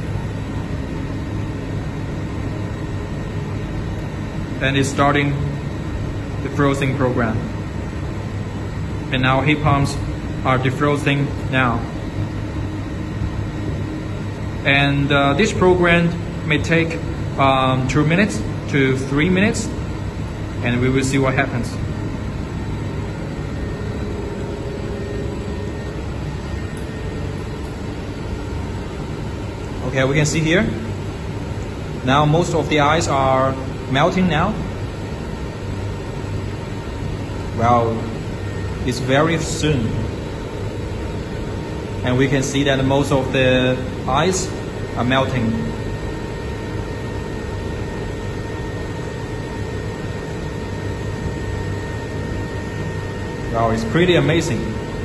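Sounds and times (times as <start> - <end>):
faint steady whine: 0.0 - 55.0
heat pump compressor hum: 0.0 - 55.0.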